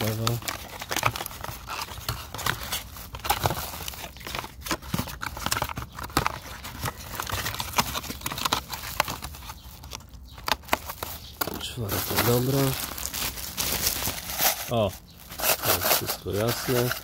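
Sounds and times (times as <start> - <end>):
cardboard boxes crinkling: 0.0 - 17.0.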